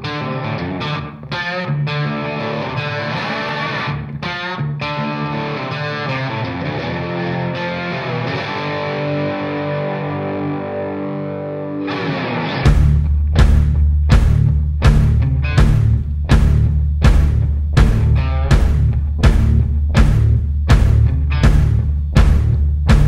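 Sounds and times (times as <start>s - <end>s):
rock music with electric guitar: 0.0s - 23.0s.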